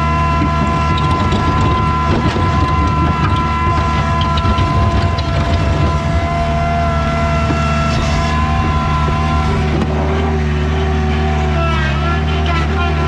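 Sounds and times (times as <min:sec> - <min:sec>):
skid steer engine running: 0:00.0 - 0:13.0
steady high whine: 0:00.0 - 0:13.0.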